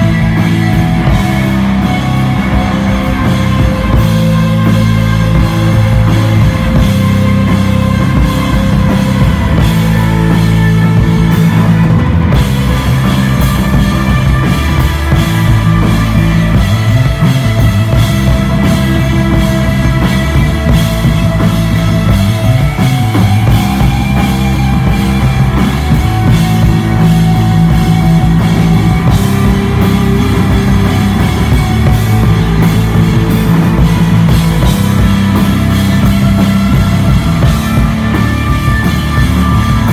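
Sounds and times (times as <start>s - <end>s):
rock band playing loud: 0.0s - 39.9s.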